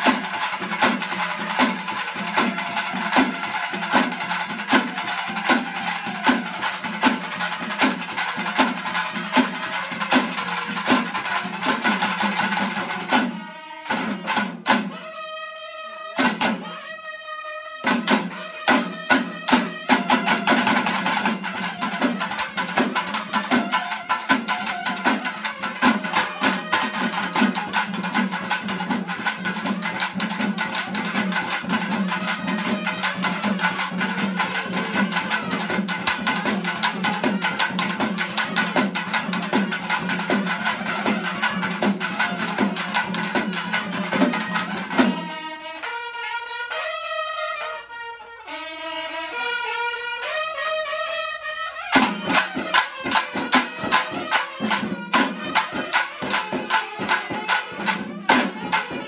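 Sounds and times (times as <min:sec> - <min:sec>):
barrel drums beating rapidly: 0:00.0 - 0:14.9, 0:18.0 - 0:45.4, 0:51.9 - 0:59.0.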